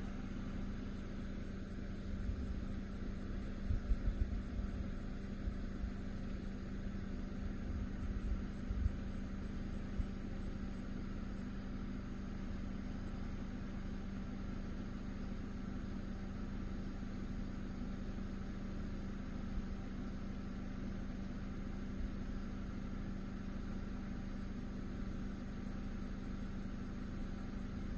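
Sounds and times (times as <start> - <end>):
constant low hum: 0.0 - 27.9
night insects chirping: 0.0 - 27.9.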